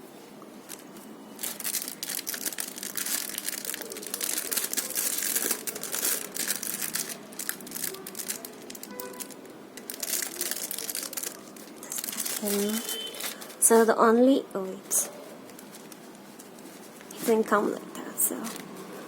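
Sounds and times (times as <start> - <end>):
irregular crackles: 0.5 - 13.9, 14.8 - 19.0
packaging crinkling and rustling: 0.6 - 13.9, 14.8 - 19.0.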